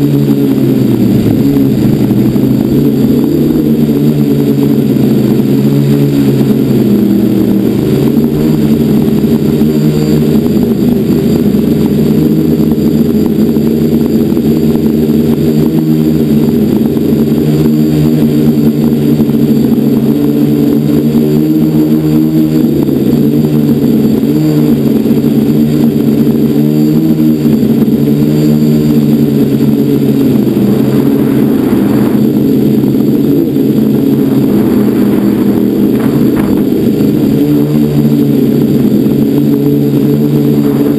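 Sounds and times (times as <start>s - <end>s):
quadcopter propellers humming: 0.0s - 40.9s.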